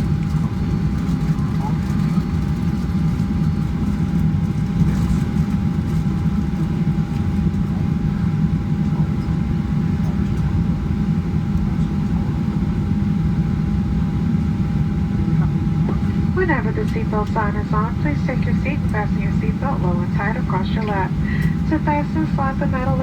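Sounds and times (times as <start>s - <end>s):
aircraft cabin rumble: 0.0s - 23.0s
constant mid-pitched whine: 0.0s - 23.0s.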